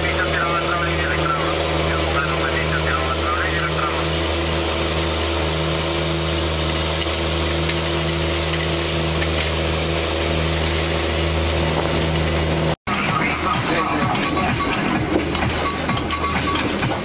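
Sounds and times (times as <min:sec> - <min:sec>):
machine mechanical drone: 0:00.0 - 0:17.0.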